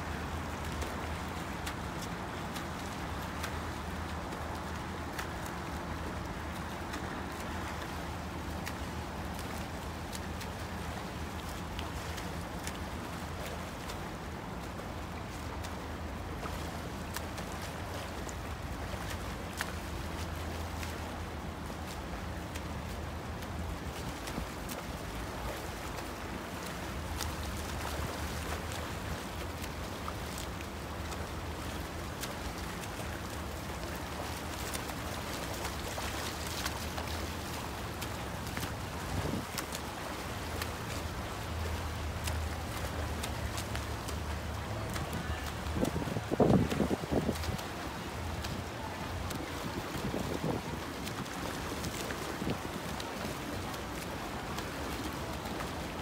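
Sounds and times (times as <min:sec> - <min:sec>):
swimmer splashing: 0:00.0 - 0:56.0.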